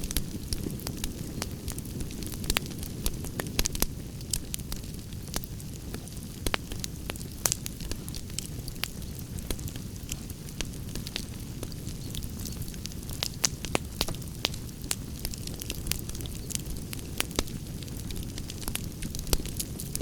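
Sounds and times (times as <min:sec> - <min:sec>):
campfire crackling and popping: 0:00.0 - 0:20.0
campfire rumbling: 0:00.0 - 0:20.0.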